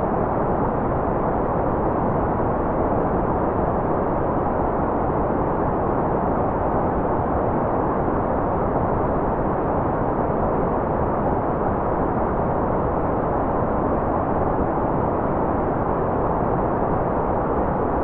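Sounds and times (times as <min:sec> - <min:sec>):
muffled white noise: 0:00.0 - 0:18.0.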